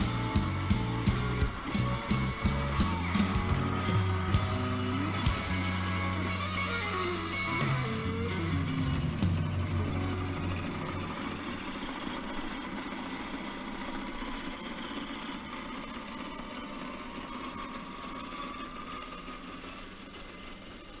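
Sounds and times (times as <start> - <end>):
rc truck motor whining: 0.0 - 21.0.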